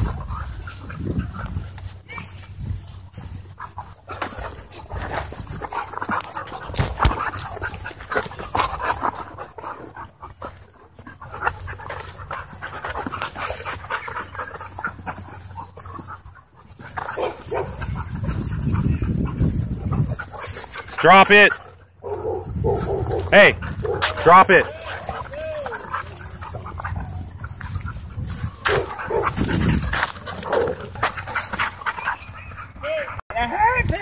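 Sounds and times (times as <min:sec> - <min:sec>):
dogs play growling: 0:00.0 - 0:02.0, 0:02.9 - 0:32.8
dogs panting: 0:00.0 - 0:33.2
paws scuffling in dirt: 0:00.0 - 0:33.2.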